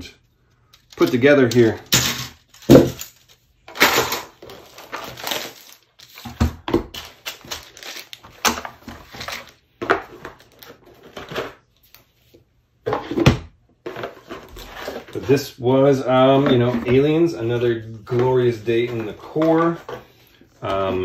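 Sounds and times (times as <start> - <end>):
plastic and cardboard crinkling: 0.6 - 13.2, 13.8 - 21.0.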